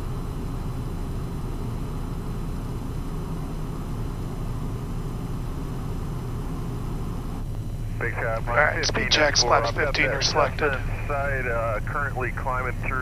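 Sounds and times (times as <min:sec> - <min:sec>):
airflow over fuselage: 0:00.0 - 0:13.0
jet engines humming: 0:00.0 - 0:13.0.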